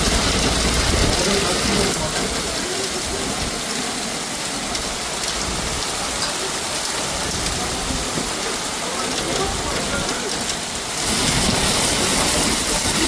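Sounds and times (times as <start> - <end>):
hail and rain pelting down: 0.0 - 13.0.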